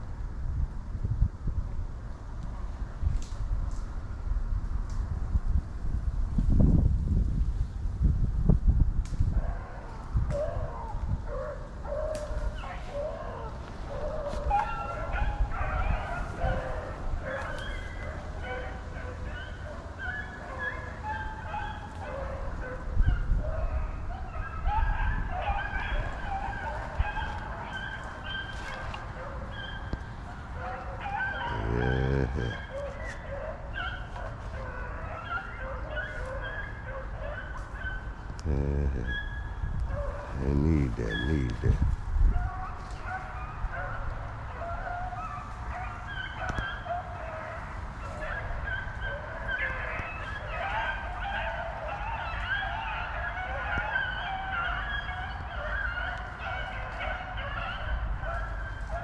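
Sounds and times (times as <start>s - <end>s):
hounds baying: 9.3s - 59.0s.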